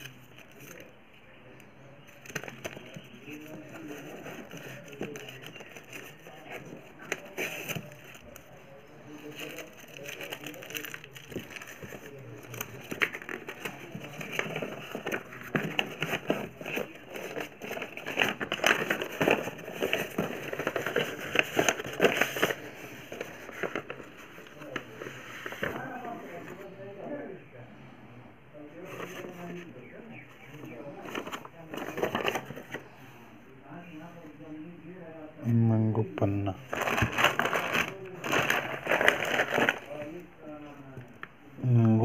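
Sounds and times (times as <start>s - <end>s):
paper rustling and crinkling: 0.0s - 1.0s, 1.8s - 26.7s, 28.8s - 33.0s, 36.2s - 41.1s.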